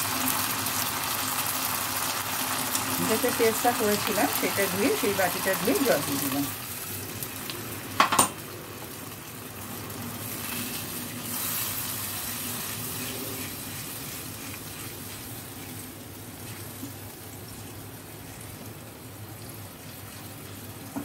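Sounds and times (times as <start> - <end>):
water sizzling in hot frying pan: 0.0 - 21.0.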